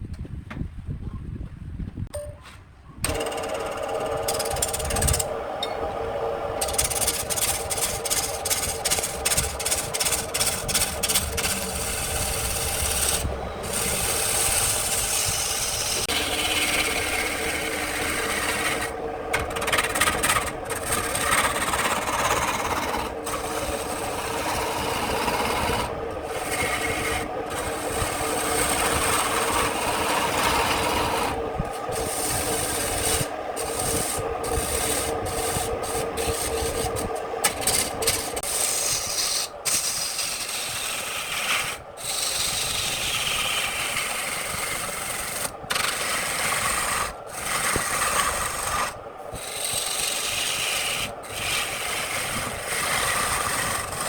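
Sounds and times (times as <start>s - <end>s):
lathe humming: 3.0s - 54.0s
lathe tool cutting wood: 3.1s - 54.0s.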